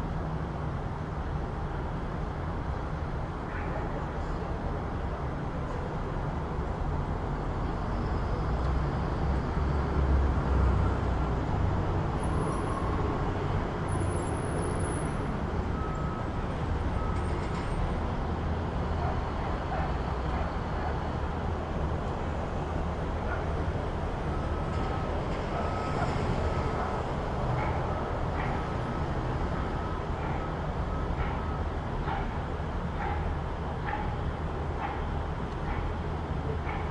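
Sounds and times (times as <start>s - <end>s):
passing motor vehicles rumble: 0.0s - 36.9s.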